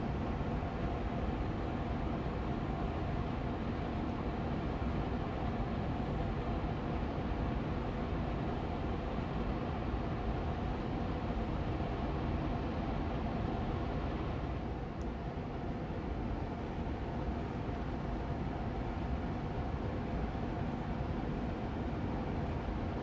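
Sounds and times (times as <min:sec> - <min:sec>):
air purifier fan humming: 0:00.0 - 0:23.0.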